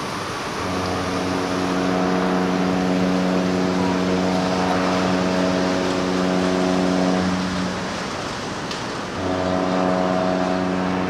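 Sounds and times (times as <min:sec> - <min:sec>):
deep ship horn blast: 0:00.4 - 0:11.0.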